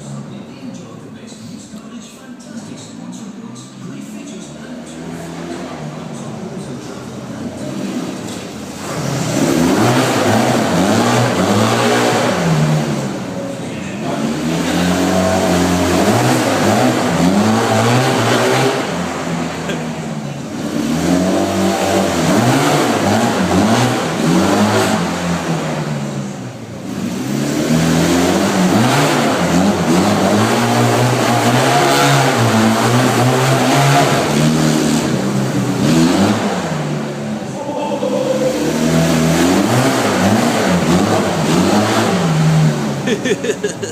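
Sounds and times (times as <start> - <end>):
engine revving: 4.0 - 43.9.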